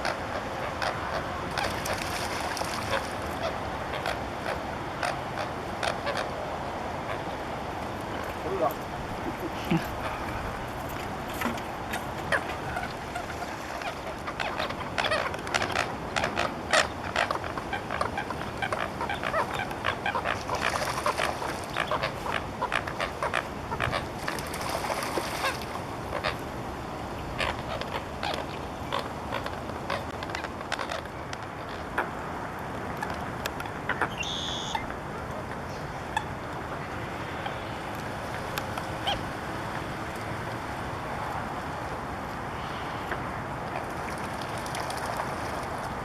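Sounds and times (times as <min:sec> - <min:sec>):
water birds honking and quacking: 0:00.0 - 0:46.0.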